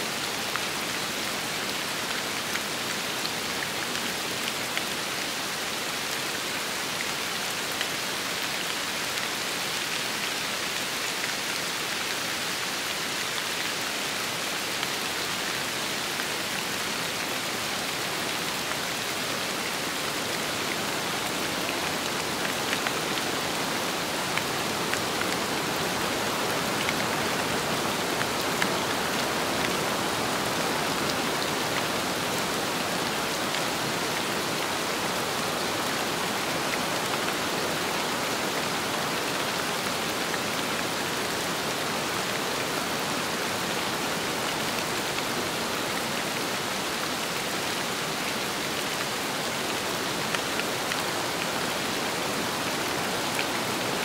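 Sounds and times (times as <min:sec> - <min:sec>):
steady rain falling: 0:00.0 - 0:54.0
wind: 0:00.0 - 0:54.0.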